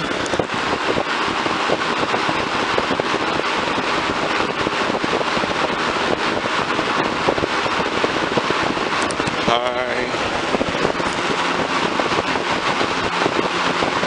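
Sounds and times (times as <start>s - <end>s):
box fan air rushing: 0.0s - 14.0s
fan clicking: 0.0s - 14.0s.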